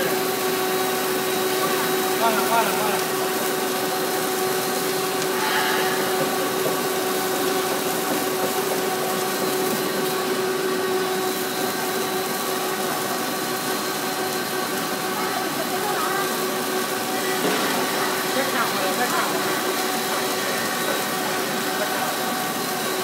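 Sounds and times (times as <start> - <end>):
machine humming with constant tone: 0.0 - 23.0.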